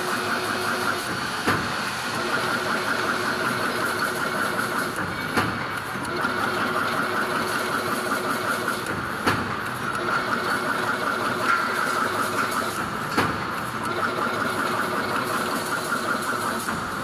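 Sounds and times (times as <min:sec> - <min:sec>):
fence machine running: 0:00.0 - 0:17.0.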